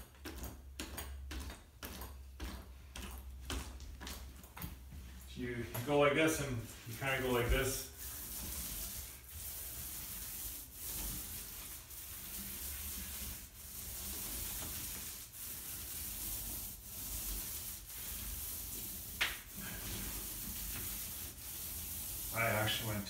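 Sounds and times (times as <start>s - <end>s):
paint roller rolling on wall: 0.0s - 23.0s.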